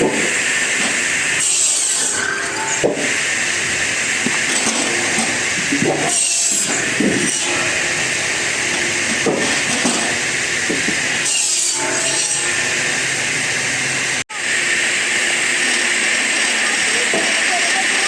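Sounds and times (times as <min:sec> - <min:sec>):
power saw cutting wood: 0:00.0 - 0:18.0.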